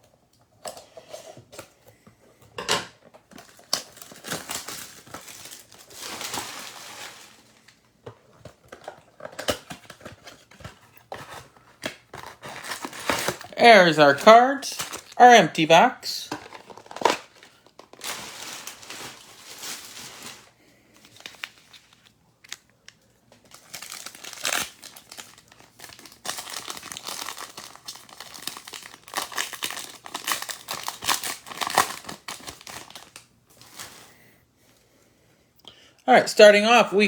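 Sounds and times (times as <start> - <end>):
plastic foil wrapper crinkling: 3.1 - 34.3.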